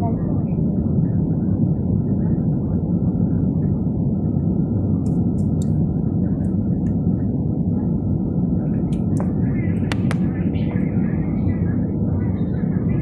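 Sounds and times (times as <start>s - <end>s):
airliner engines rumbling in cabin: 0.0s - 13.0s.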